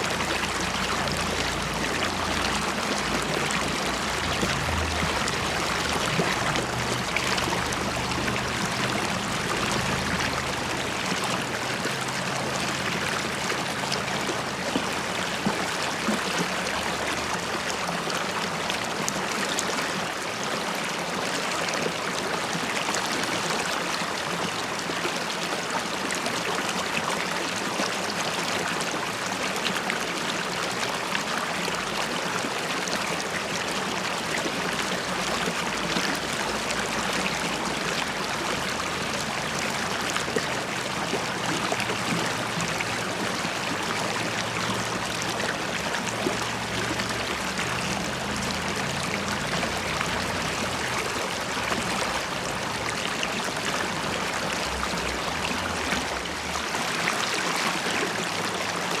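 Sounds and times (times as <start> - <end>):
river water over stones: 0.0 - 59.0.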